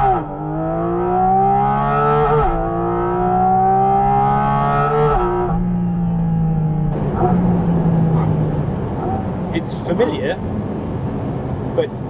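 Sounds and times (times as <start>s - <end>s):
car engine accelerating hard: 0.0s - 11.8s.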